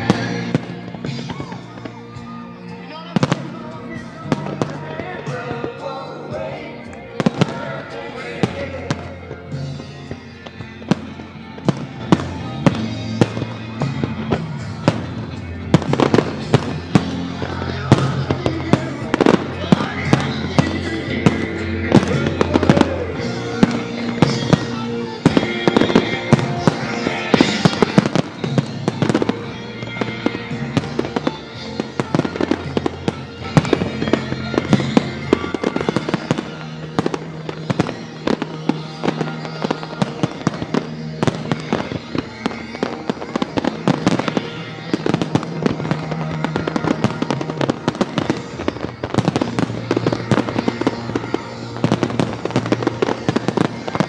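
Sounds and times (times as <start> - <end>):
music with held notes: 0.0 - 54.0.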